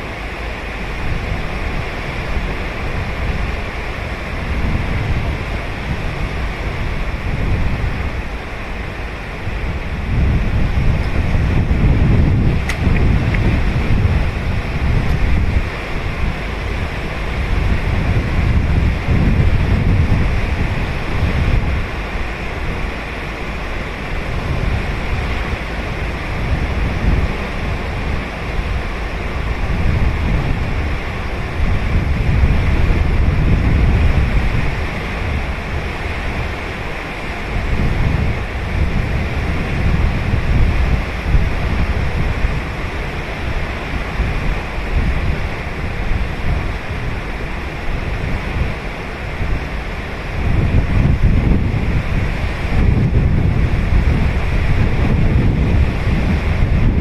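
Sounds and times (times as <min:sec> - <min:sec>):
waves breaking on beach: 0:00.0 - 0:57.0
wind buffeting microphone: 0:00.0 - 0:57.0.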